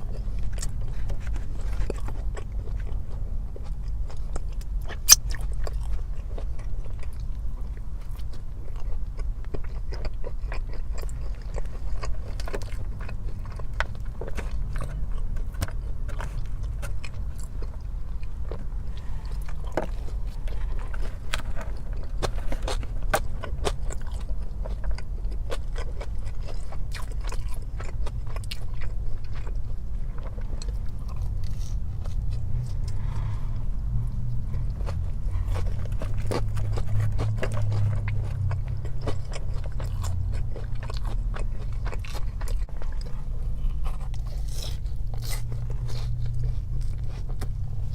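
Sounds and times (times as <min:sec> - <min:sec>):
biting and chewing: 0:00.0 - 0:47.9
steady low hum: 0:00.0 - 0:47.9.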